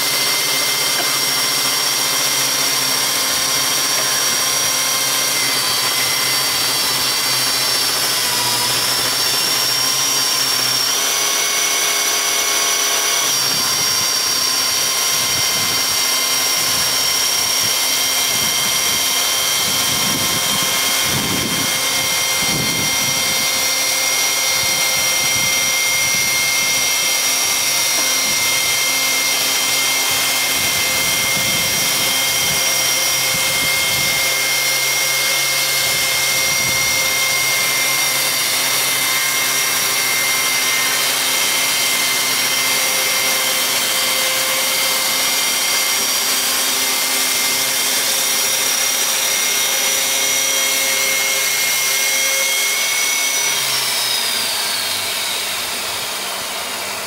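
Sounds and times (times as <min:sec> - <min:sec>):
chainsaw cutting log: 0:00.0 - 0:57.0
high-pitched whine: 0:00.0 - 0:57.0.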